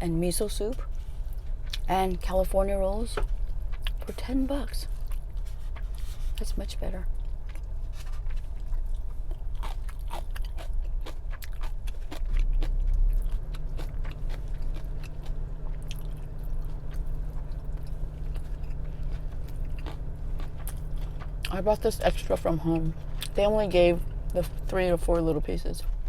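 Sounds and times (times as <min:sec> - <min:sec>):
steady low hum: 0:00.0 - 0:26.0
chewing crunchy food: 0:00.7 - 0:02.4, 0:03.2 - 0:26.0.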